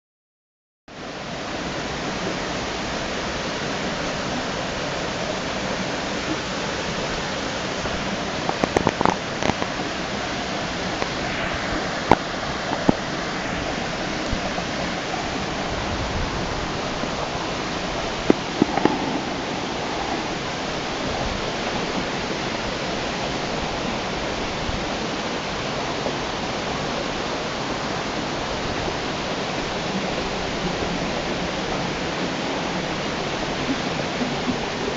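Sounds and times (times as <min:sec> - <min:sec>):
waterfall rushing: 0:00.9 - 0:34.9.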